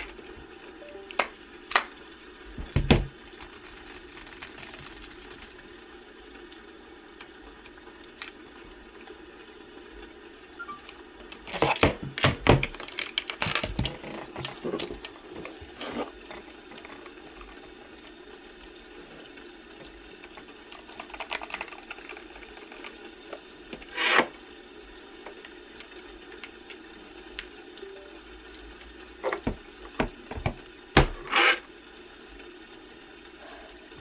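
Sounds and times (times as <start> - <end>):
low room hum: 0.0 - 34.0.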